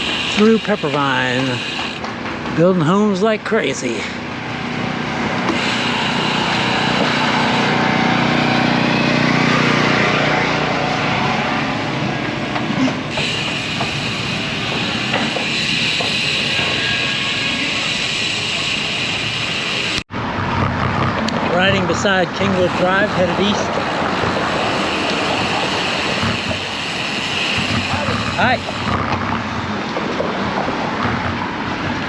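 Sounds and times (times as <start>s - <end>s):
tyre and road noise: 0.0s - 32.0s.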